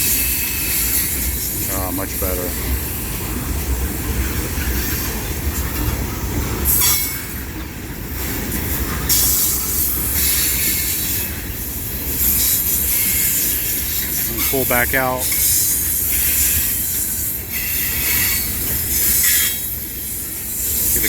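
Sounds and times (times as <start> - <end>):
freight train rumbling: 0.0 - 21.0
train wheel squeal: 0.0 - 21.0.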